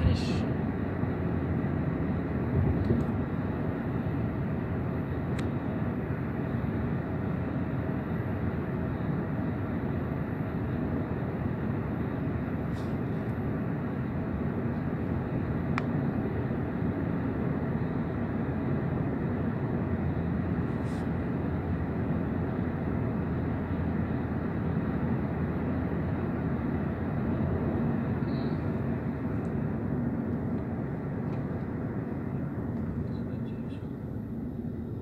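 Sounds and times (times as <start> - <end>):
car road and engine noise: 0.0 - 35.0.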